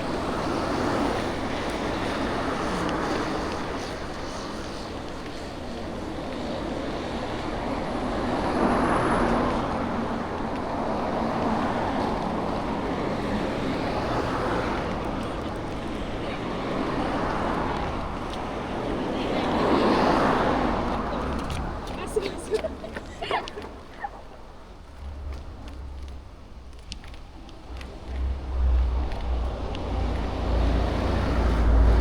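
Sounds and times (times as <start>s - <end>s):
vehicles passing close by: 0.0s - 32.0s.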